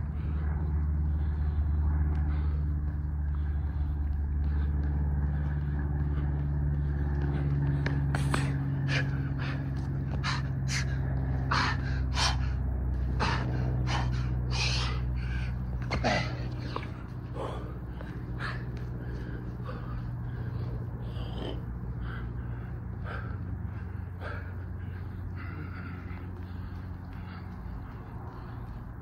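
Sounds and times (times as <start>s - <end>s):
man breathing hard: 0.0s - 29.0s
steady low hum: 0.0s - 29.0s.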